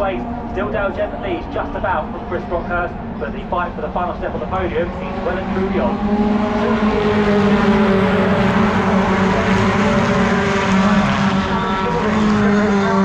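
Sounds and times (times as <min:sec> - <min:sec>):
truck engine at high revs: 0:00.0 - 0:13.0.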